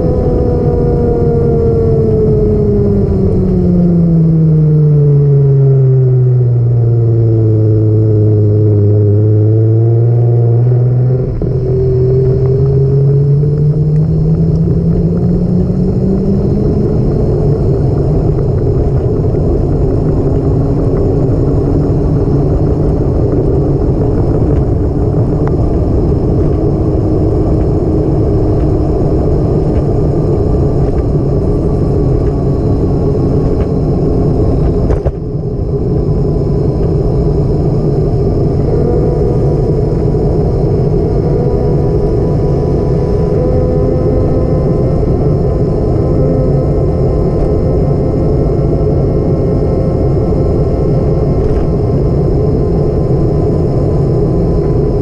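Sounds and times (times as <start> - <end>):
road and wind noise: 0.0 - 55.0
vehicle engine running: 0.0 - 55.0.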